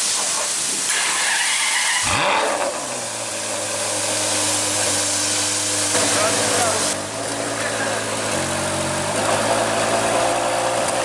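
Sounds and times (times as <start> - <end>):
car engine starting and idling: 0.9 - 11.0.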